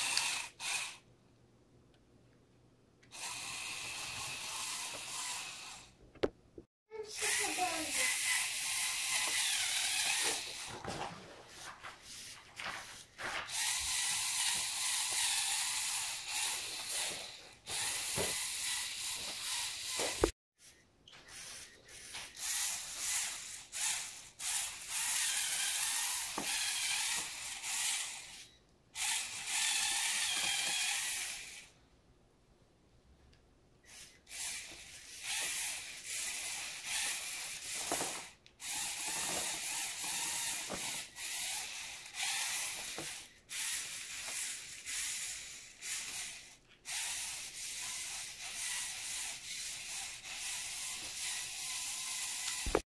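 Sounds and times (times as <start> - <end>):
toy motor gear grinding: 0.0 - 1.0, 3.0 - 6.0, 6.9 - 10.9, 12.9 - 31.8, 33.8 - 52.8.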